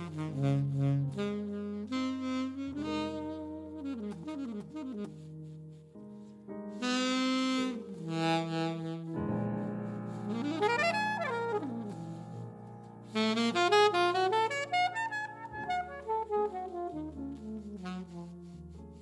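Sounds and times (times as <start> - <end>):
alto saxophone playing jazz ballad: 0.0 - 6.0, 6.7 - 19.0
piano accompaniment: 0.0 - 19.0.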